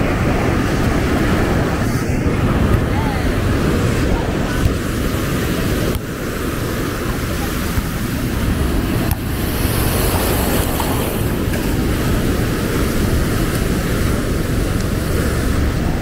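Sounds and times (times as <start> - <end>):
surf washing on sand: 0.0 - 16.0
wind rumble on microphone: 0.0 - 16.0.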